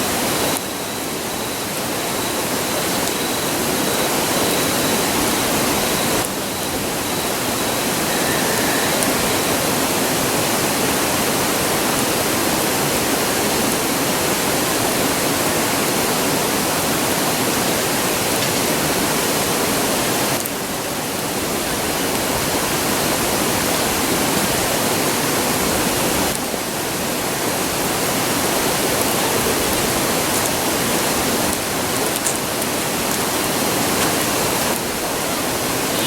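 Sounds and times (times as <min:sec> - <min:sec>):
campfire crackles: 0:00.0 - 0:36.0.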